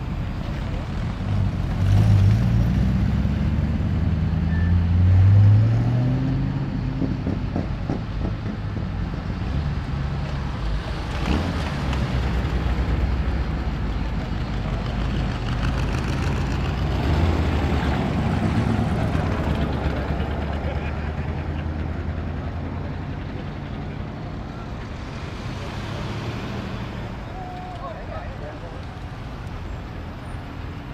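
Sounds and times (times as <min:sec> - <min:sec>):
car engines driving past: 0:00.0 - 0:30.9.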